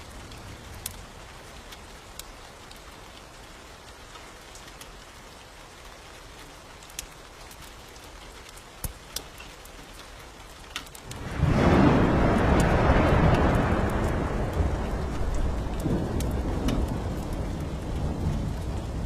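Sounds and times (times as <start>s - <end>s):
rain hiss: 0.0s - 19.0s
sharp crackles: 0.0s - 19.0s.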